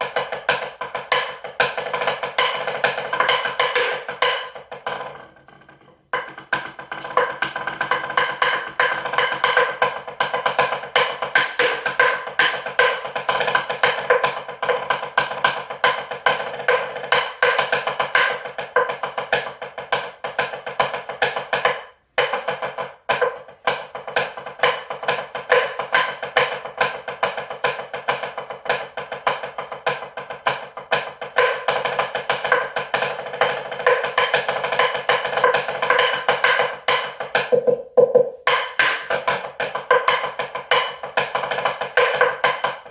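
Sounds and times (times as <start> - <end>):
music of rapid percussive clicks: 0.0 - 42.9.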